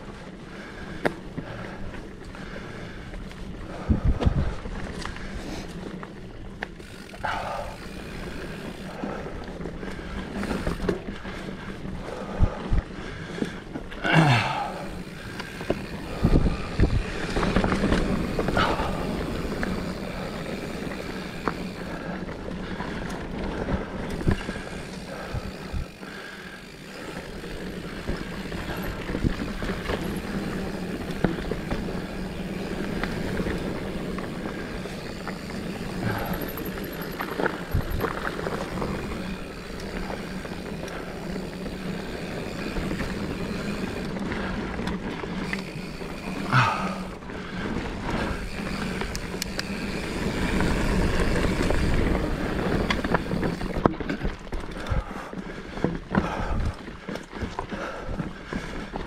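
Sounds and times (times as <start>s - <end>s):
bike rattling over ground: 0.0s - 59.0s
bike tyre noise on dirt: 0.0s - 59.0s.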